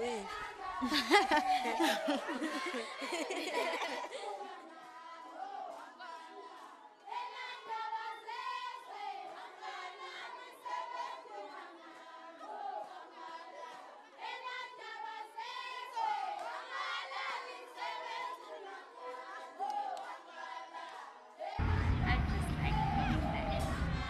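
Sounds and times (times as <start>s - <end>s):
group of women singing: 0.0s - 24.0s.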